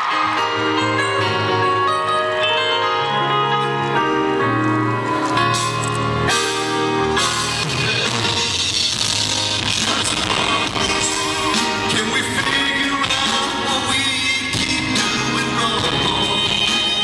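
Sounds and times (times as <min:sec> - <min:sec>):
live pop-rock band distorted: 0:00.0 - 0:17.0.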